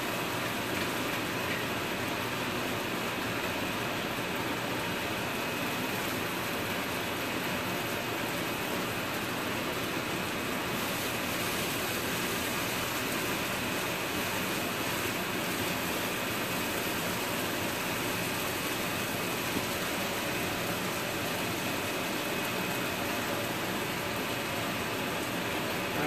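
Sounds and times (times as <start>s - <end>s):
beans simmering in a skillet: 0.0s - 26.0s
range hood fan running: 0.0s - 26.0s.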